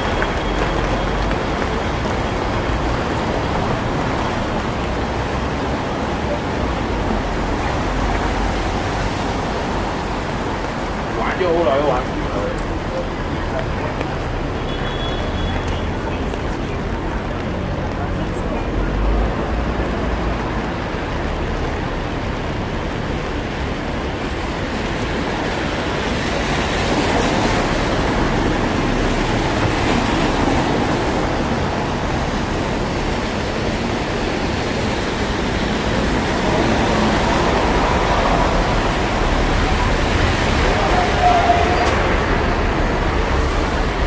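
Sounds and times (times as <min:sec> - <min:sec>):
city traffic: 0:00.0 - 0:44.0.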